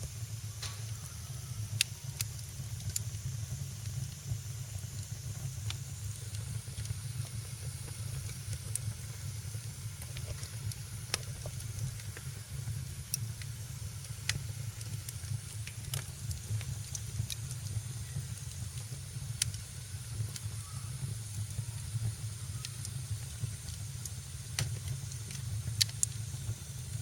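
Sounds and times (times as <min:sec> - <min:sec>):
fire low rumble: 0:00.0 - 0:27.0
soft hiss: 0:00.0 - 0:27.0
wood fire crackling: 0:00.0 - 0:27.0.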